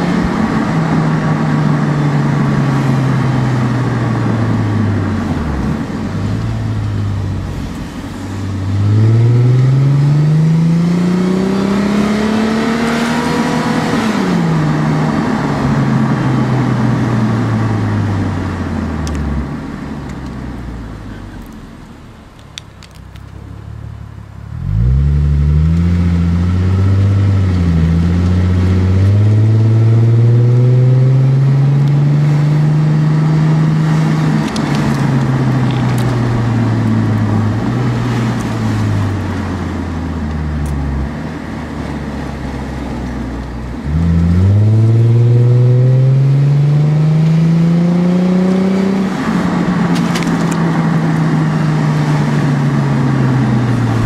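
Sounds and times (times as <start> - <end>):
car exhaust revving: 0.0 - 41.2, 42.2 - 54.0.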